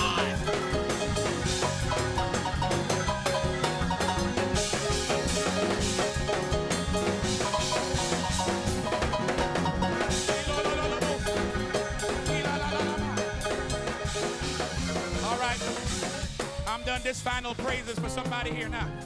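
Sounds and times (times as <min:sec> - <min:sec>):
pitched instrument notes: 0:00.0 - 0:16.4
drum kit playing a busy beat: 0:00.0 - 0:19.0.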